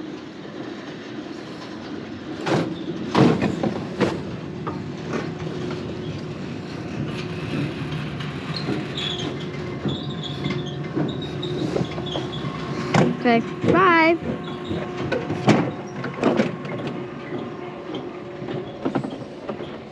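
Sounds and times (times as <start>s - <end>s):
sled wheels rumbling on rail: 0.0s - 19.9s.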